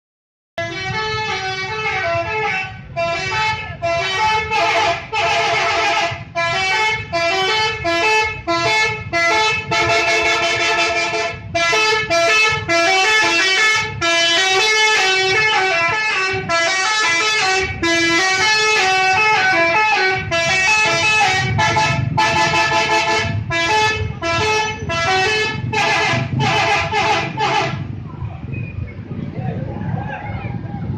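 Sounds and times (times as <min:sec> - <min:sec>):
bus air horns playing a tune: 0:00.6 - 0:27.9.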